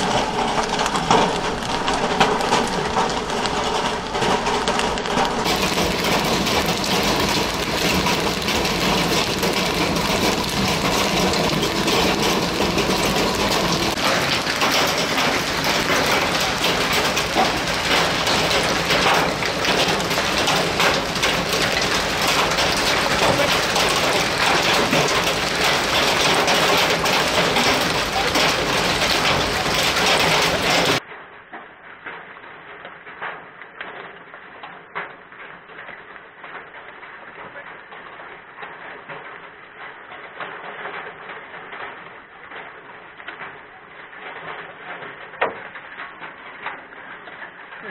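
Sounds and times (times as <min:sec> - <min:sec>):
hail and heavy rain pounding: 0:00.0 - 0:31.1, 0:32.0 - 0:47.9.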